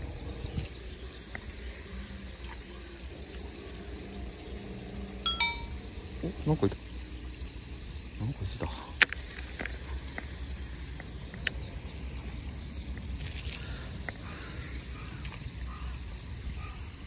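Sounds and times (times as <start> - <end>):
constant low rumble: 0.0 - 17.0
small bird chirping: 3.2 - 17.0.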